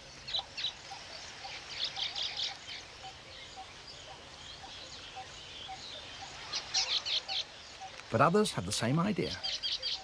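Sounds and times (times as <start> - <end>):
birds chattering: 0.0 - 10.0.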